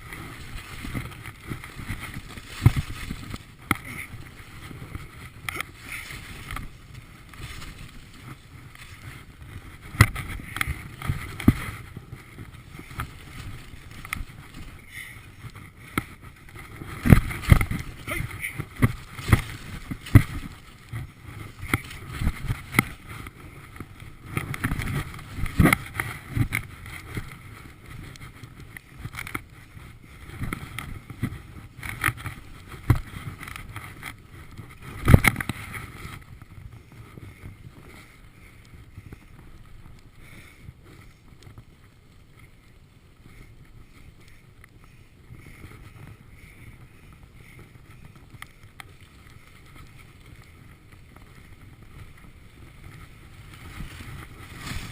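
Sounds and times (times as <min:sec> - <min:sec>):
skis scraping over snow: 0:00.0 - 0:54.9
wind on microphone: 0:00.0 - 0:54.9.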